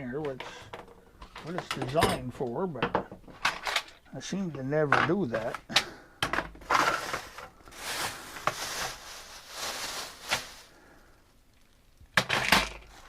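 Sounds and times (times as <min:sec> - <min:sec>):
tools rustling and scraping: 0:00.2 - 0:10.7.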